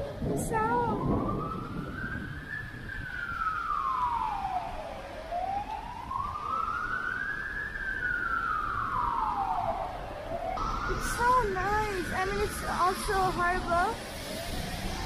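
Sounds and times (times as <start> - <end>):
ambulance siren wailing: 0.0 - 15.0
low background rush: 0.0 - 15.0.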